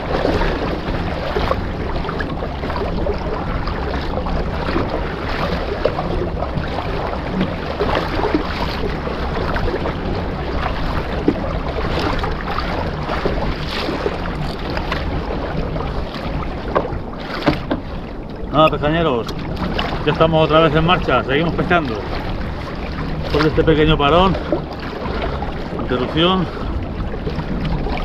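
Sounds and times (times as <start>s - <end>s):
water lapping against a hull: 0.0s - 28.0s.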